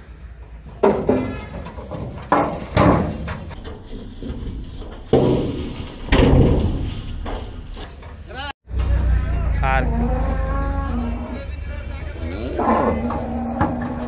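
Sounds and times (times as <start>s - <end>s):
cow hooves clattering on metal: 0.0s - 9.0s, 10.1s - 14.0s.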